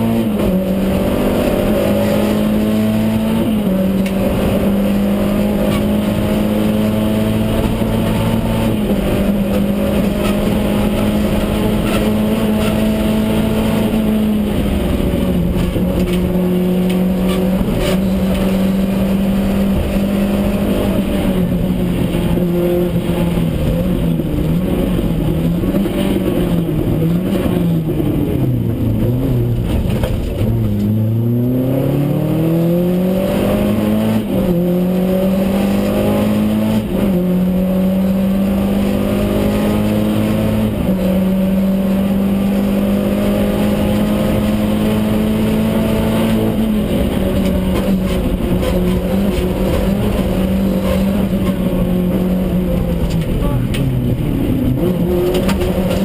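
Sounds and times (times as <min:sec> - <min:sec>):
rally car engine from inside cabin: 0:00.0 - 0:56.0.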